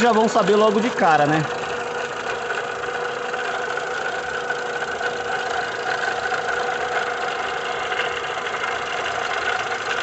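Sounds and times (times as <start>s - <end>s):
steady engine whine: 0.0s - 10.0s.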